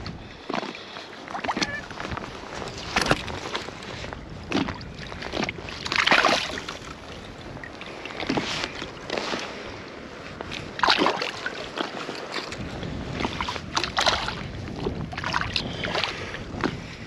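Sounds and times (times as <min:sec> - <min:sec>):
water splashing and sloshing: 0:00.0 - 0:17.0
wind on microphone: 0:00.0 - 0:17.0.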